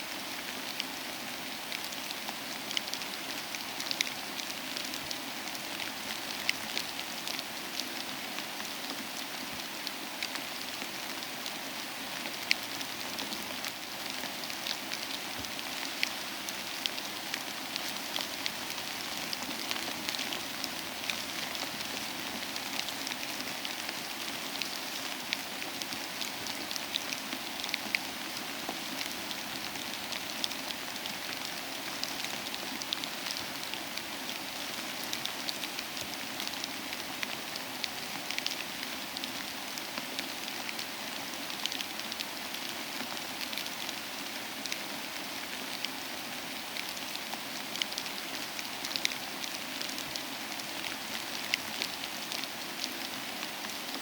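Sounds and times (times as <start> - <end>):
steady soft rain: 0.0 - 54.0.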